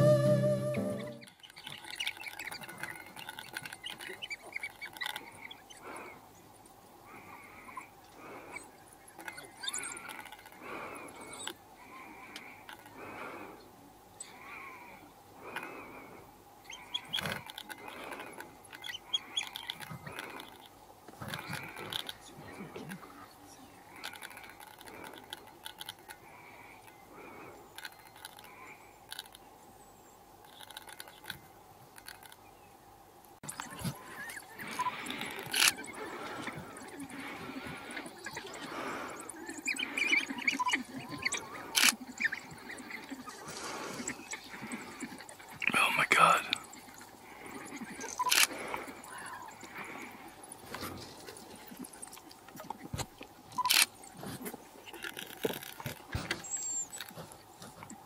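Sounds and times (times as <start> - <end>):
pups twittering and squeaking: 0.0 - 6.1, 7.1 - 12.6, 16.6 - 29.3, 33.4 - 58.0.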